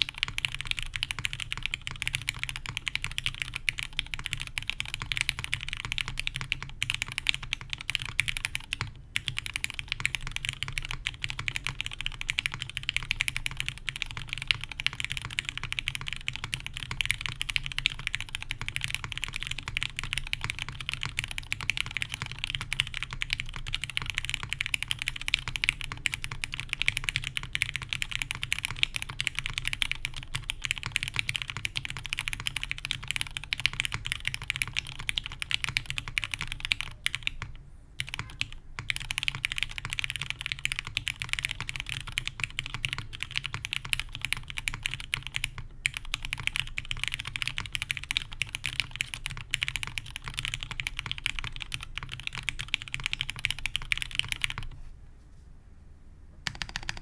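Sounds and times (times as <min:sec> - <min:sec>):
fast mechanical keyboard typing: 0:00.0 - 0:54.7, 0:56.4 - 0:57.0.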